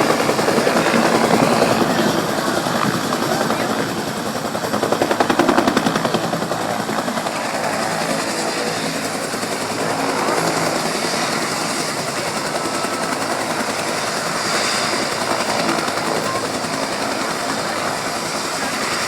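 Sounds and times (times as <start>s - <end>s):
helicopter rotor chopping: 0.0s - 19.0s.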